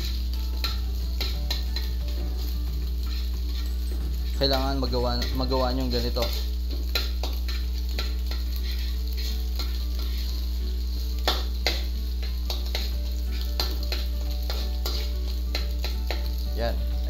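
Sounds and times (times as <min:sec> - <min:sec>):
metal spatula scraping a pan: 0:00.0 - 0:16.4
food sizzling in a wok: 0:00.0 - 0:17.0.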